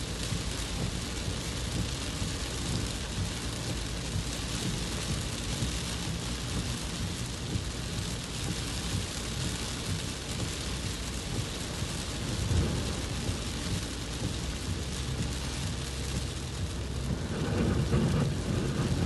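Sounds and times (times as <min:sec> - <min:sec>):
continuous low rumble: 0:00.0 - 0:19.0
heavy rain on car windshield: 0:00.0 - 0:19.0.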